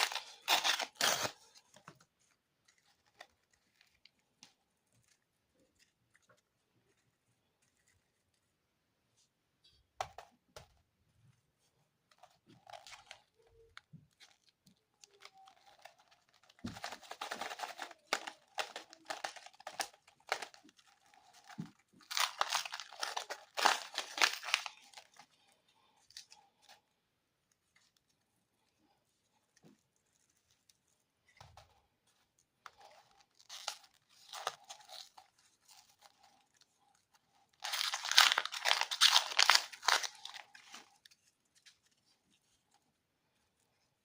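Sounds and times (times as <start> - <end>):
plastic wrapper crinkling and tearing: 0.0 - 8.4, 12.1 - 26.8, 27.5 - 42.9.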